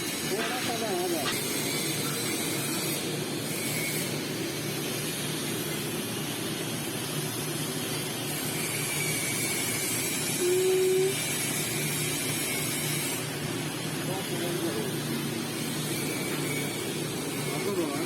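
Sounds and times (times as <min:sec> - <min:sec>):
welding arc hissing and humming: 0:00.0 - 0:18.0.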